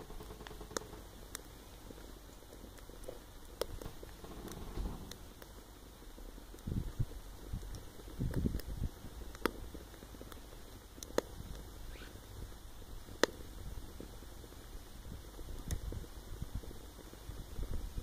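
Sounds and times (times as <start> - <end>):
fire popping: 0.0 - 18.0
low rumbling of fire: 0.0 - 18.0.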